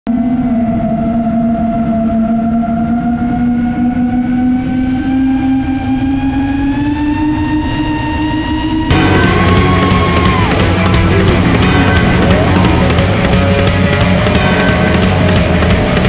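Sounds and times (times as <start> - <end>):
drone motors whining: 0.1 - 16.0.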